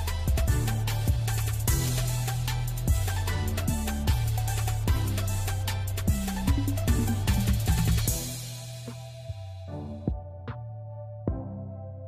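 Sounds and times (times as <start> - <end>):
instrumental beat music: 0.0 - 10.7.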